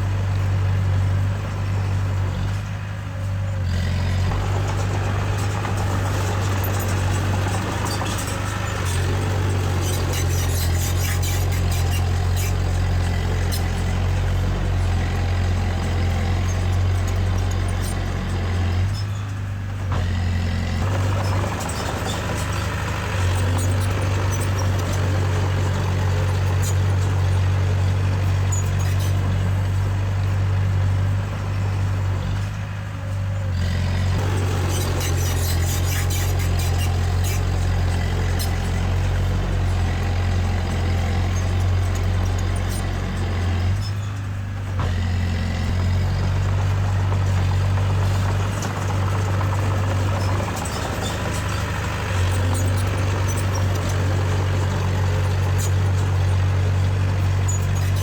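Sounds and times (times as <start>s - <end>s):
heavy machinery engine drone: 0.0s - 58.0s
machinery clanks and rattles: 0.0s - 58.0s.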